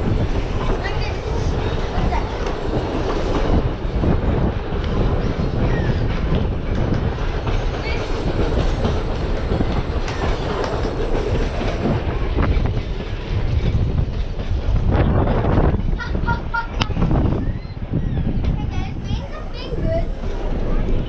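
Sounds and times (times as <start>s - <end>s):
wheels clacking over rail joints: 0.0s - 17.0s
train carriage rolling on track: 0.0s - 21.0s.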